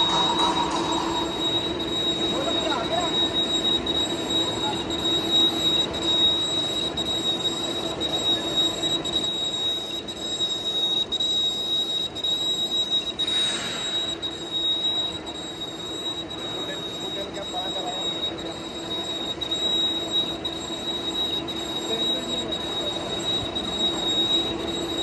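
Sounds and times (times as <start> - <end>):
lathe whining and humming: 0.0 - 25.0.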